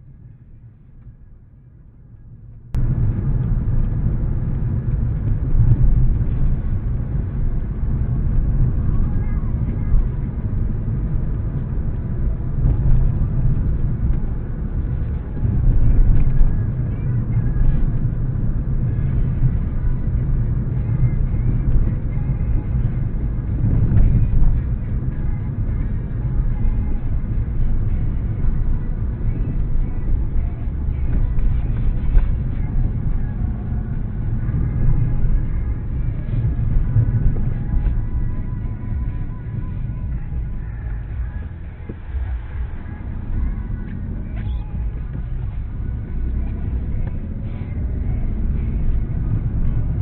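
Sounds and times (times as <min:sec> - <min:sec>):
muffled car engine and road rumble: 0:00.0 - 0:50.0.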